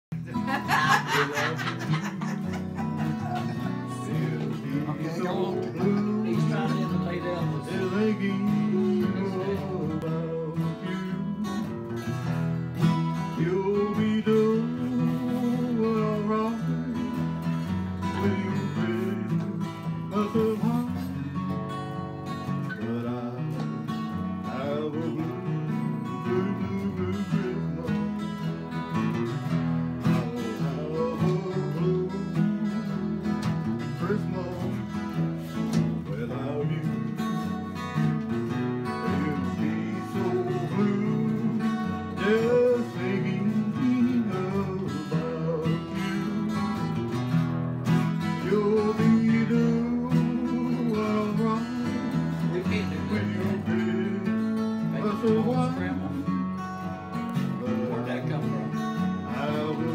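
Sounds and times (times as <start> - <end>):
acoustic guitar playing: 0.0 - 59.9.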